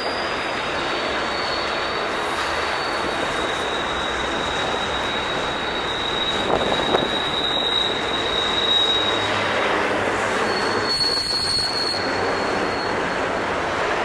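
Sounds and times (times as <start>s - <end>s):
high-pitched wheel squeal: 0.0s - 13.7s
freight train rumble: 0.0s - 14.0s.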